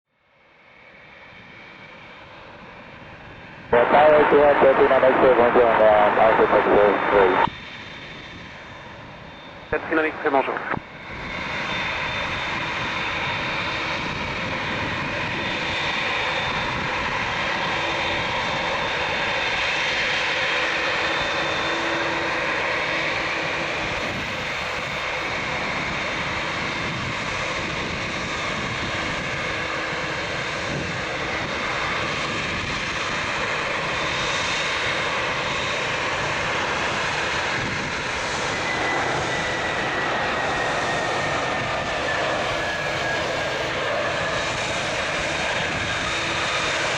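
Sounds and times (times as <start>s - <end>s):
jet engines whining: 1.0s - 46.9s.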